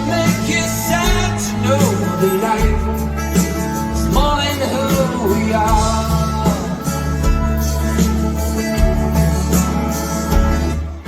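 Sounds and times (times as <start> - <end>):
electric guitar: 0.0 - 11.0
live rock band playing: 0.0 - 11.0.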